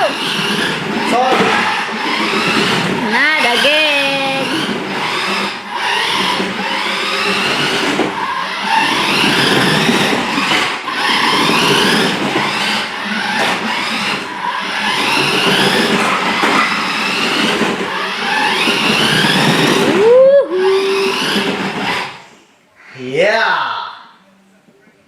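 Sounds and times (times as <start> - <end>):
toy car electric motor whining: 0.0 - 22.5.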